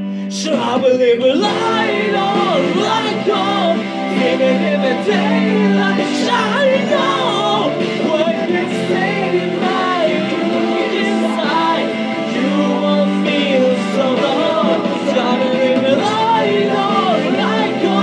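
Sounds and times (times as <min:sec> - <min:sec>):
instrumental accompaniment: 0:00.0 - 0:18.0
man singing rock ballad: 0:00.3 - 0:18.0.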